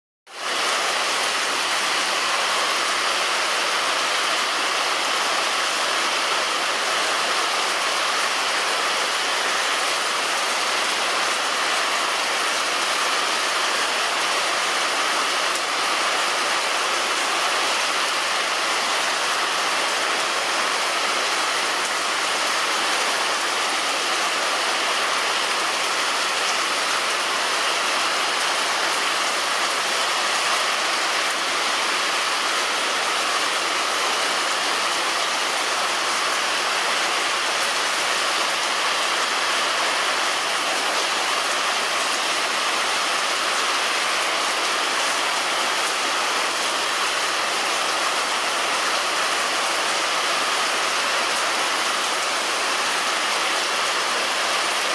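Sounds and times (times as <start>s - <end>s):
heavy rain on a roof: 0.3s - 54.9s.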